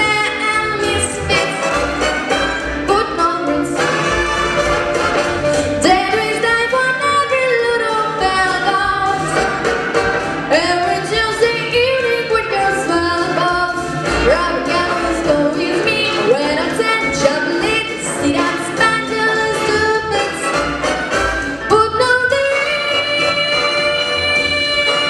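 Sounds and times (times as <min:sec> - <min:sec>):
instrumental accompaniment: 0:00.0 - 0:25.0.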